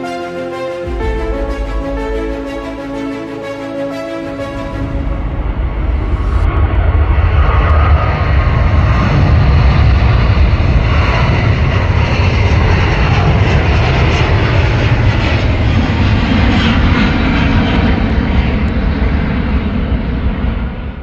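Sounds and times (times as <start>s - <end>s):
jet engines rumbling: 0.0s - 20.8s.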